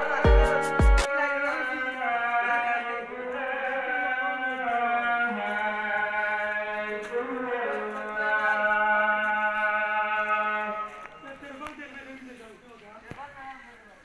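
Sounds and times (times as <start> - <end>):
person chanting melodically: 0.0 - 11.6.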